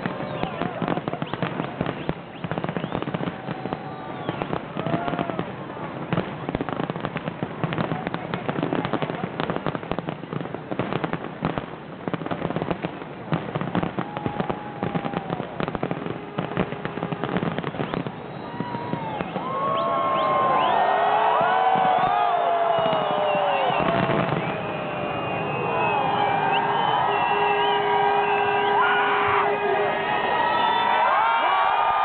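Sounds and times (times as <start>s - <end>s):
fireworks whistling: 0.0s - 5.5s, 6.1s - 32.0s
fireworks bangs and crackles: 0.0s - 32.0s.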